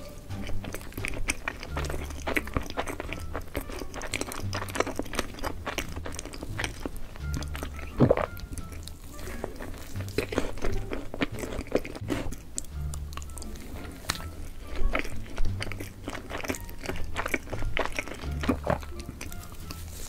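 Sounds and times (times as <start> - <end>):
background music with bass: 0.0 - 20.0
crunchy bites and chewing: 0.0 - 20.0.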